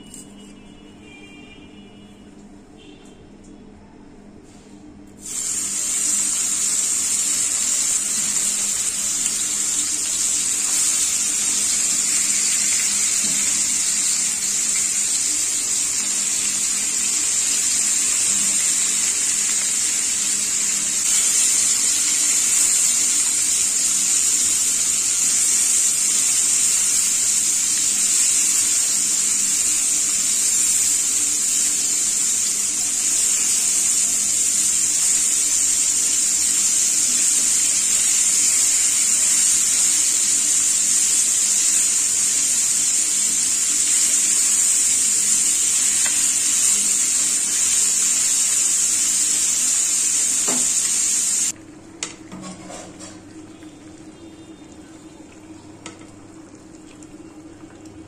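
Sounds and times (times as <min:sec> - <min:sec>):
fish sizzling in hot oil: 0:05.2 - 0:51.6, 0:52.3 - 0:55.1.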